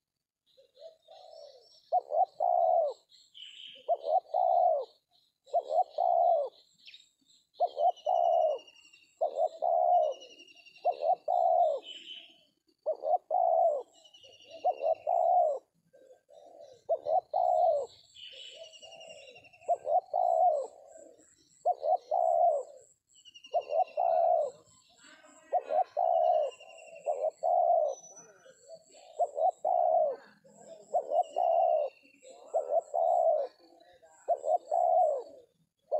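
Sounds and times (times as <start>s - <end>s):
small birds trilling: 0.5s - 35.9s
doves cooing: 0.6s - 6.7s, 7.6s - 35.9s.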